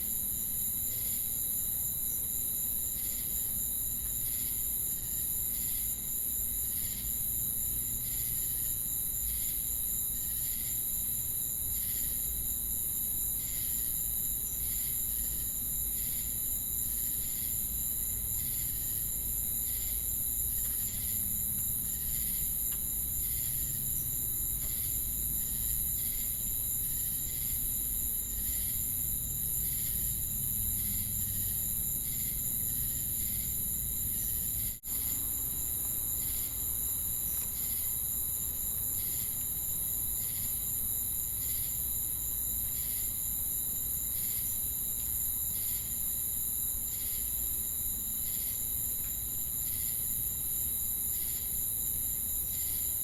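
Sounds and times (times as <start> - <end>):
crickets and cicadas trilling: 0.0 - 53.0.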